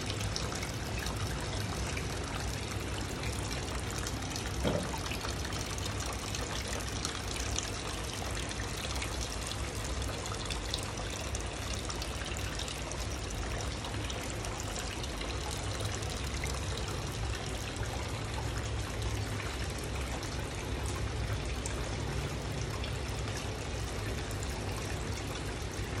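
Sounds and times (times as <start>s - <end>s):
water splashing into tank: 0.2s - 21.8s.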